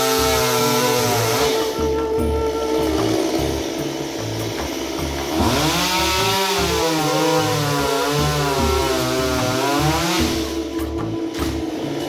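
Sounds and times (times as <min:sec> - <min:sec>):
background music: 0:00.0 - 0:12.0
chainsaw cutting: 0:00.0 - 0:12.0.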